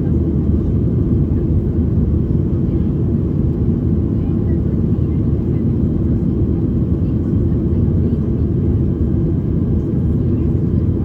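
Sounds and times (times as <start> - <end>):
jet engine and airflow rumble: 0.0 - 11.0.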